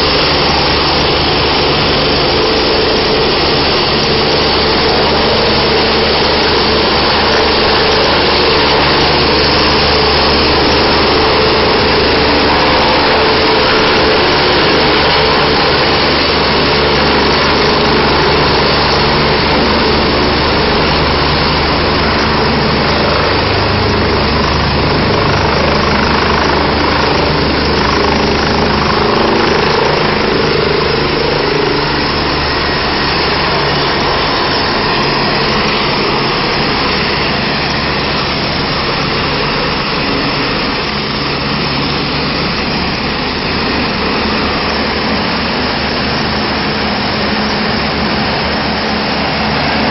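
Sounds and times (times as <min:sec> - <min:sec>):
helicopter engine and rotor: 0:00.0 - 0:49.9.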